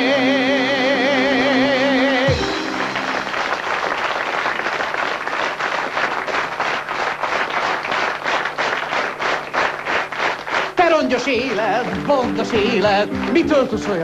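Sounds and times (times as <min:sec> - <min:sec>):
audience applauding: 0:02.3 - 0:14.0.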